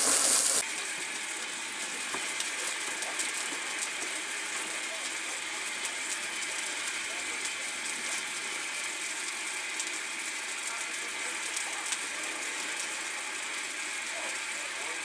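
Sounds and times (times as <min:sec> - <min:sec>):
food sizzling and crackling in fat: 0:00.0 - 0:15.0.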